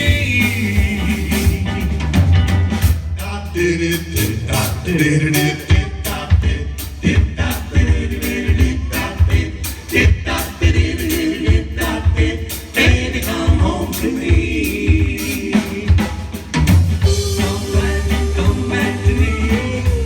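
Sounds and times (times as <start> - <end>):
bass: 0.0 - 20.0
steady drum beat: 0.0 - 20.0
vocal group singing harmonies: 0.0 - 20.0.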